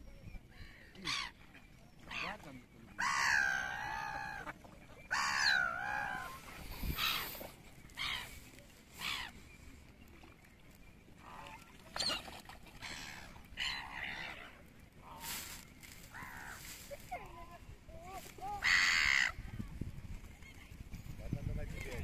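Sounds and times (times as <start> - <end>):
gulls calling: 0.0 - 19.6.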